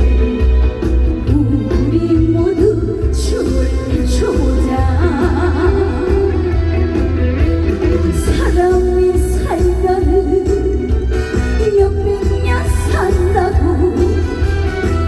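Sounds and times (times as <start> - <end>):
band accompaniment: 0.0 - 15.0
steady bass: 0.0 - 15.0
woman singing: 0.0 - 15.0.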